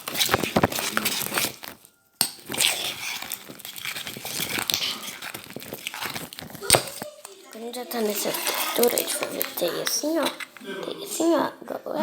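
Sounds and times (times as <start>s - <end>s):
slime crackling and popping: 0.0s - 10.6s.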